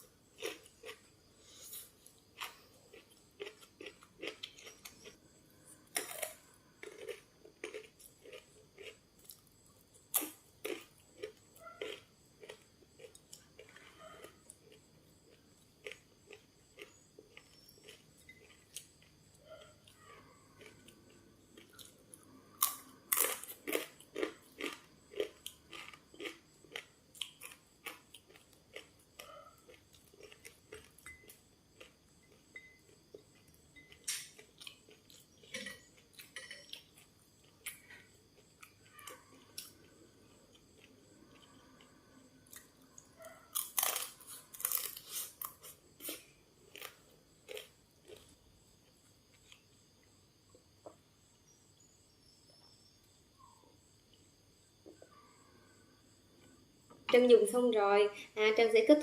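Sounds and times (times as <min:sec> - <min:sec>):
person chewing crisp food: 0:00.0 - 0:51.5.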